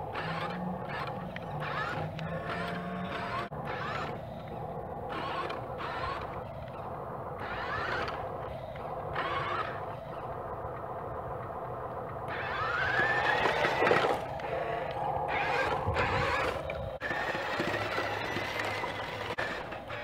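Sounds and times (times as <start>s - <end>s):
electric toy motors whining: 0.0s - 20.0s.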